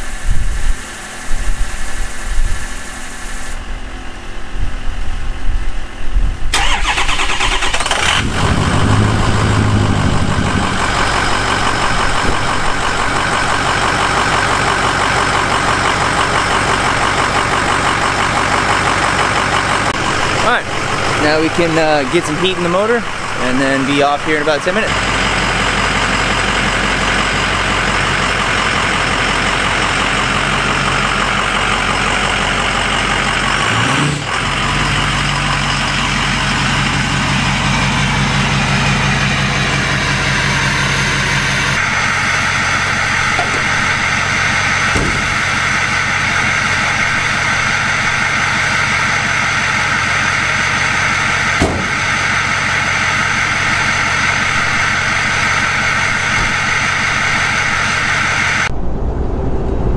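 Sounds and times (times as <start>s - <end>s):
diesel engine idling: 3.6s - 58.8s.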